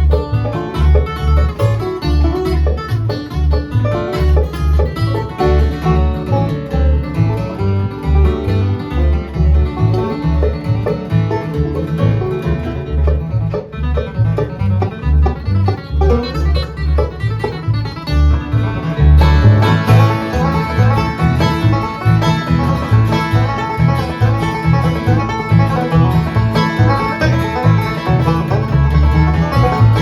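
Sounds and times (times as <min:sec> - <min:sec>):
banjo picking: 0:00.0 - 0:30.0
bass notes: 0:00.0 - 0:30.0
guitar picking: 0:00.0 - 0:30.0.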